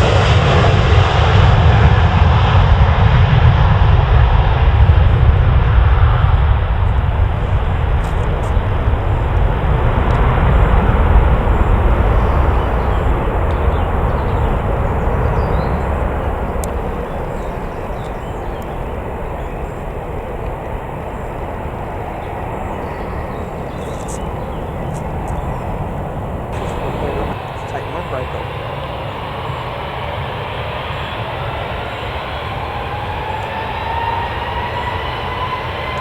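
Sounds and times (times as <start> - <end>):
jet airliner passing: 0.0 - 36.0.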